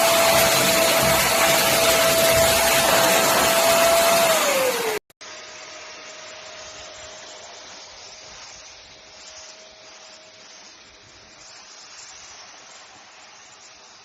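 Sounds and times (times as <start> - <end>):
vacuum cleaner motor whining: 0.0 - 11.7.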